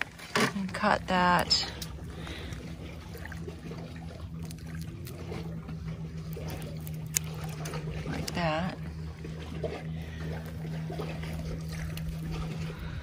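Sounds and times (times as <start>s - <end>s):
water trickling over rocks: 0.0s - 12.8s
low motor drone: 0.0s - 13.0s.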